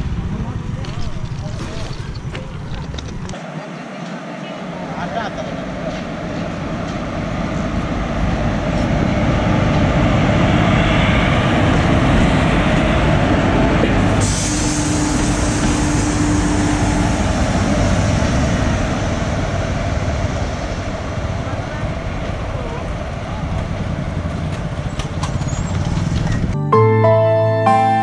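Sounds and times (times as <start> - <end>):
locomotive wheels rumbling on rail: 0.0 - 26.6.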